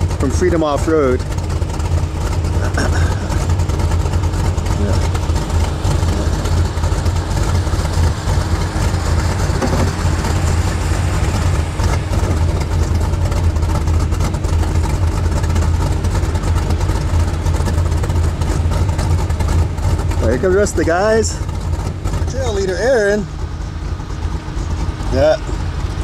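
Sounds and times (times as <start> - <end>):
truck engines idling: 0.0 - 26.0.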